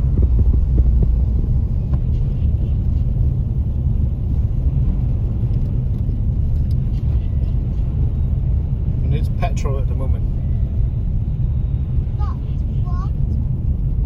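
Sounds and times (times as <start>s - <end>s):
car driving on snow: 0.0s - 14.0s.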